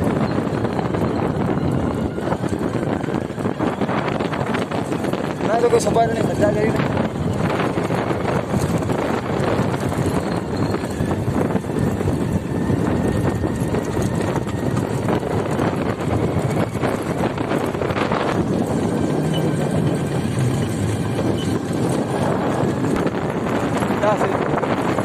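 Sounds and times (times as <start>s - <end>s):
wind and road noise: 0.0s - 25.0s
wind buffeting microphone: 0.0s - 25.0s.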